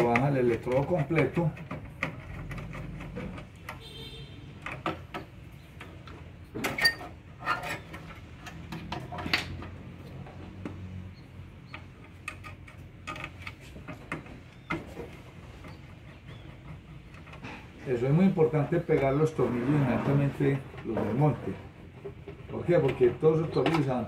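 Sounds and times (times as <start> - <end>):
clicks and light metal clatter: 0.0 - 4.0, 4.6 - 18.1, 21.8 - 24.0.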